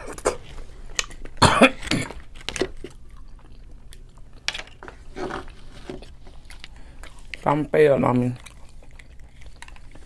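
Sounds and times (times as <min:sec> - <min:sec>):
faint low hum: 0:00.0 - 0:10.0
person chewing: 0:00.0 - 0:10.0.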